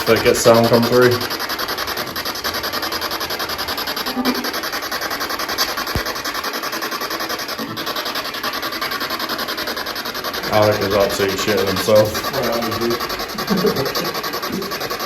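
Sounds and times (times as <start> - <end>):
radio static chopping: 0.0 - 8.4, 10.2 - 15.0.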